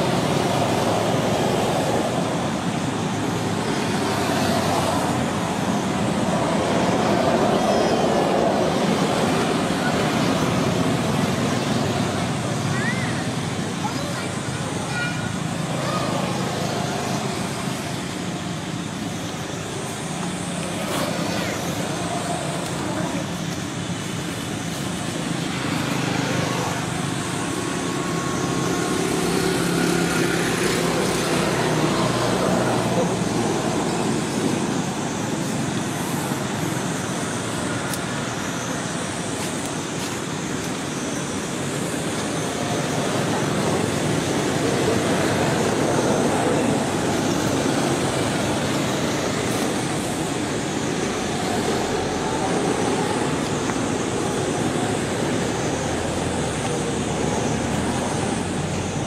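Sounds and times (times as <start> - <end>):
road traffic with low engine hum: 0.0 - 59.0.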